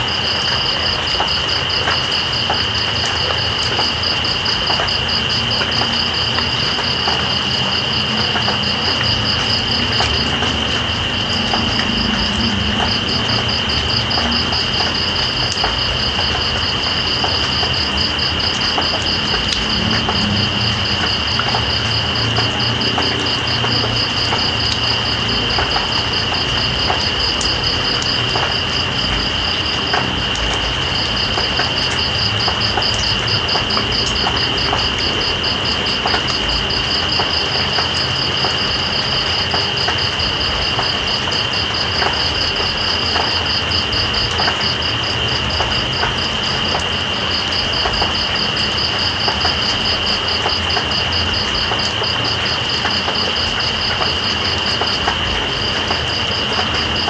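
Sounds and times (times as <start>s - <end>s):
insect continuous high buzz: 0.0s - 57.0s
steady rain: 0.0s - 57.0s.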